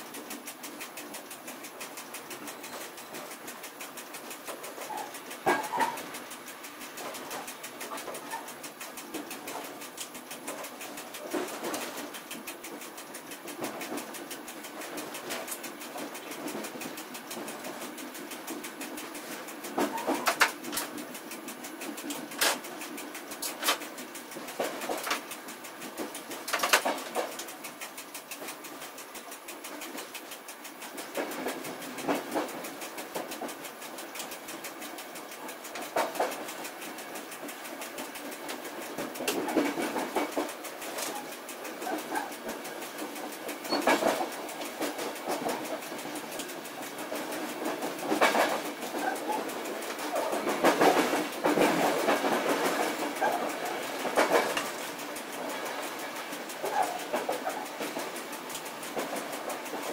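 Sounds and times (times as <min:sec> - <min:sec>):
train running noise: 0:00.0 - 0:59.9.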